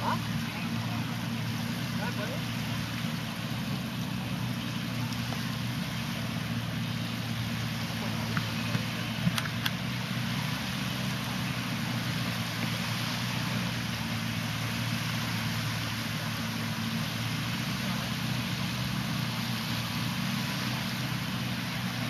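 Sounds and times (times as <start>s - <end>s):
boat engine droning: 0.0s - 22.0s
sea: 0.0s - 22.0s.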